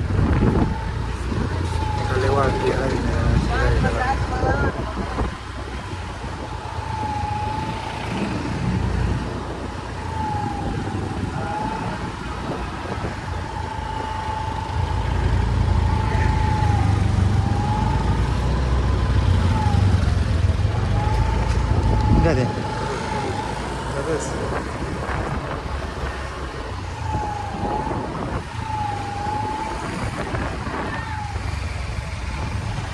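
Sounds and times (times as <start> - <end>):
bus engine rumble: 0.0 - 32.9.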